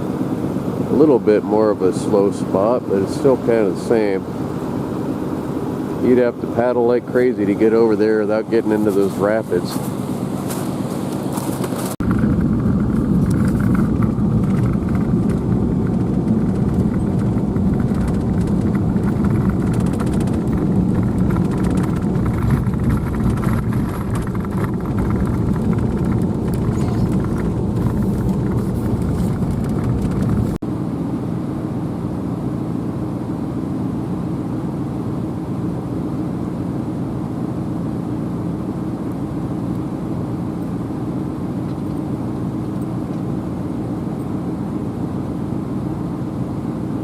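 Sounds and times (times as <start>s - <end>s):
vehicle engine and tyre rumble: 0.0s - 47.0s.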